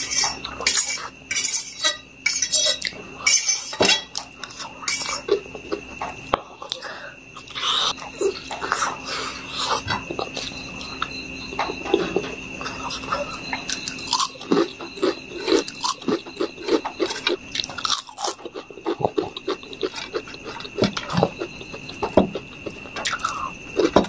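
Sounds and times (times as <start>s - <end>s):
chewing potato chips: 4.2s - 24.0s.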